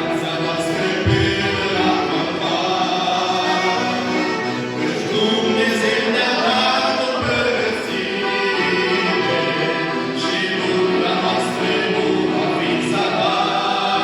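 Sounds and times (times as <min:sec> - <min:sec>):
young voices singing a hymn: 0:00.0 - 0:14.0.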